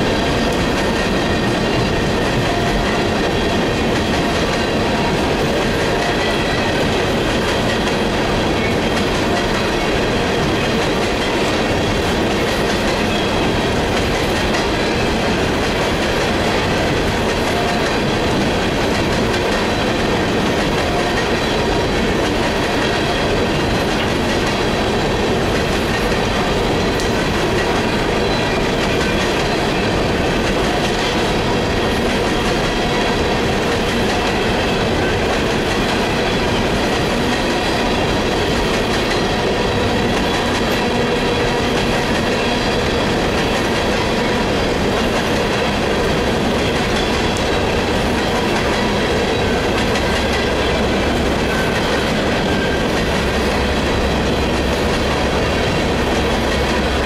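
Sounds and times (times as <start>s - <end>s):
steel wheels rumbling on track: 0.0s - 57.0s.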